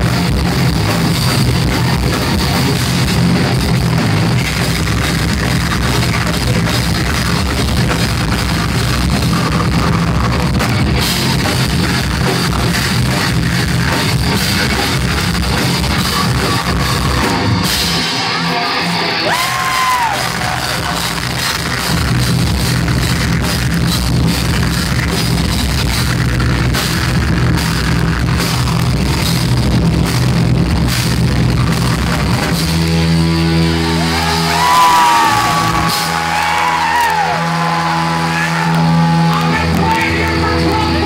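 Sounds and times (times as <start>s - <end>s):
metal band playing live: 0.0s - 41.0s.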